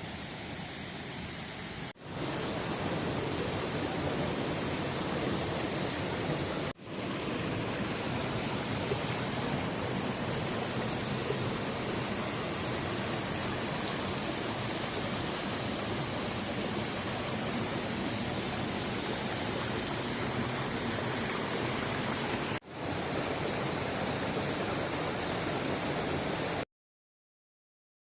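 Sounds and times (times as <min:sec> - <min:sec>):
waterfall rushing: 0:00.1 - 0:26.6.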